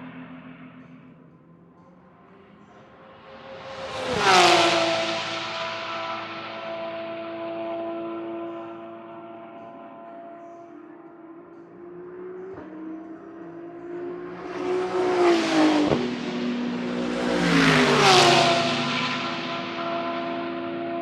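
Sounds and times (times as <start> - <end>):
race car engine drone: 0.0 - 21.0
race cars passing by: 0.0 - 21.0.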